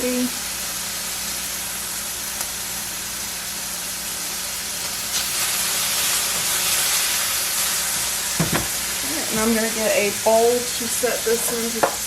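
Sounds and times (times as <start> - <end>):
steak sizzling in oil: 0.0 - 12.0.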